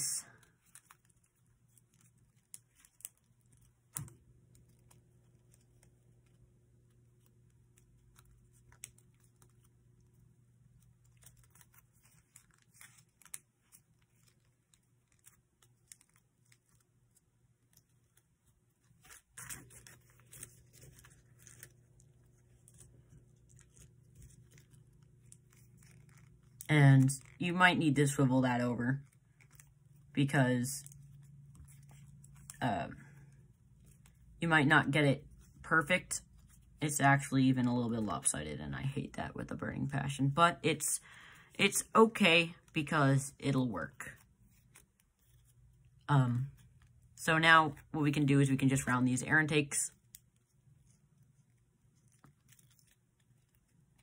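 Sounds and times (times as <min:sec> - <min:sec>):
paper crinkles: 0:00.0 - 0:34.5, 0:35.2 - 0:36.8, 0:43.7 - 0:48.0, 0:49.7 - 0:54.0
paper rustling and creasing: 0:00.0 - 0:38.2, 0:41.0 - 0:54.0
low steady hum: 0:00.0 - 0:54.0.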